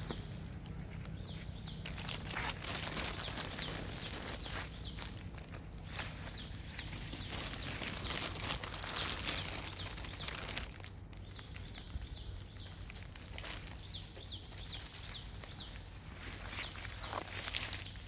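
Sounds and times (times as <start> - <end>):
rustling in grass and leaves: 0.0 - 18.0.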